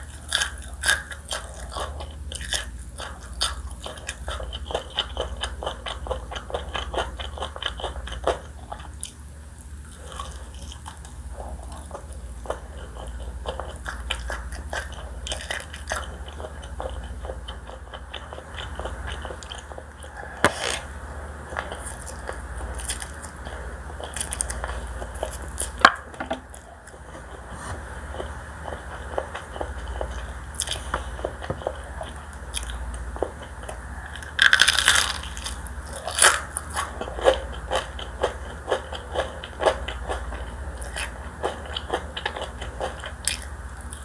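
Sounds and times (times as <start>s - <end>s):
person chewing crunchy food: 0.0s - 44.0s.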